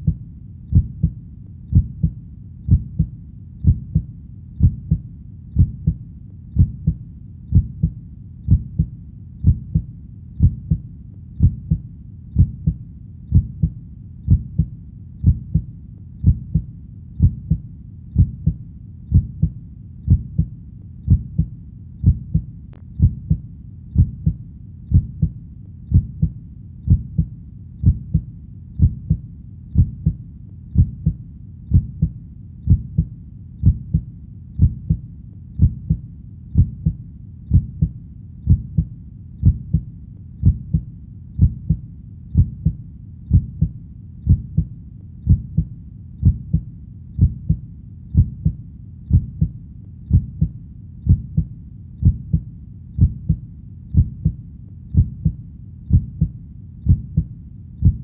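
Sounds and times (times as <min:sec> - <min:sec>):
heartbeat thumps: 0:00.0 - 0:58.0.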